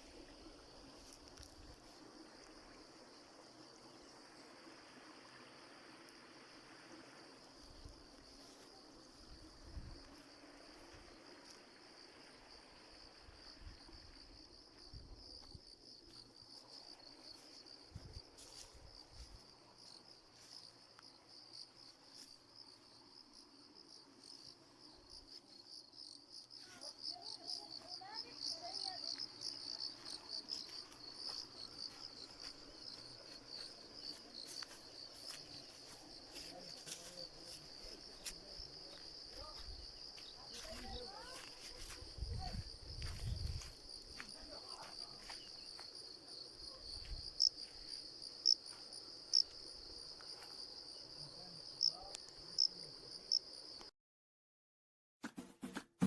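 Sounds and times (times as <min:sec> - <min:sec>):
insects trilling: 0:00.0 - 0:53.8.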